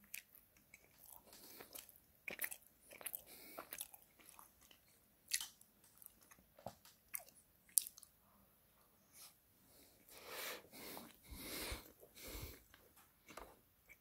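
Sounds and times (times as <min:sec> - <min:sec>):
close-up chewing: 0:00.0 - 0:08.1, 0:10.8 - 0:14.0.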